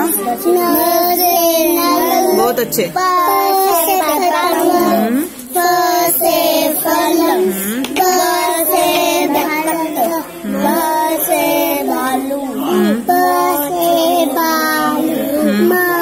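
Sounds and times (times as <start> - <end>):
children chanting sing-song: 0.0 - 16.0.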